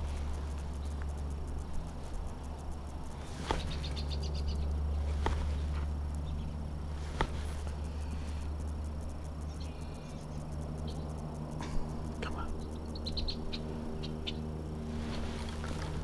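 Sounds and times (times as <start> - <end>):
ticking bird trill: 0.0 - 6.7, 7.6 - 15.2
steady low rumble: 0.0 - 16.0.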